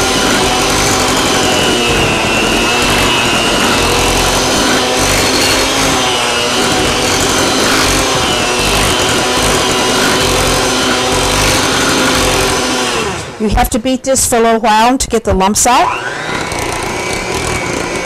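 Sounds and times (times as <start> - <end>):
electric hand mixer running: 0.0 - 13.5, 15.8 - 18.0.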